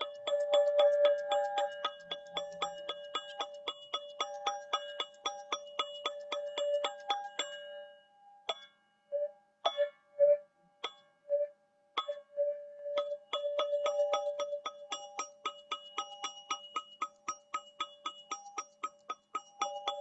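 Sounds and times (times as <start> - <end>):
tongue drum ringing notes: 0.0 - 20.0.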